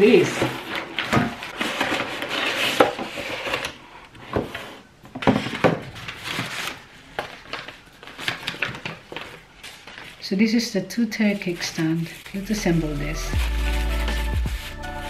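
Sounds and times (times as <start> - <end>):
paper and bubble wrap rustling: 0.0 - 4.0, 4.8 - 15.0.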